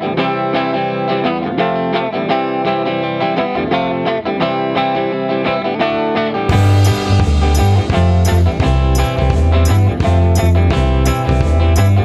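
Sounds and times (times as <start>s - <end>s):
plucked melody background music: 0.0s - 12.0s.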